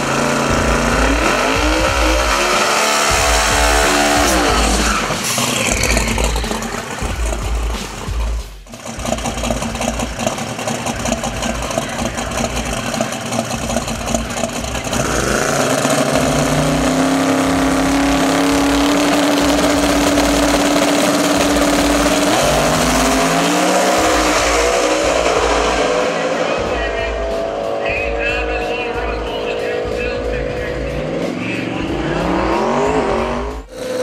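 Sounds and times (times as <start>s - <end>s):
truck engine revving and accelerating: 0.0s - 34.0s.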